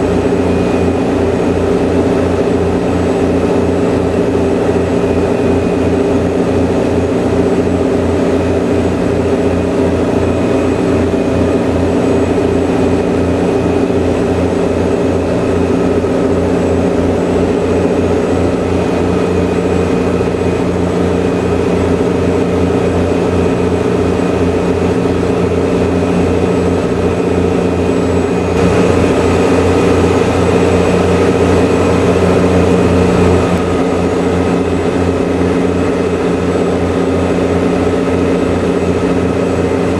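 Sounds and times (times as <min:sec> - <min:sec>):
ferry engines droning: 0:00.0 - 0:39.9.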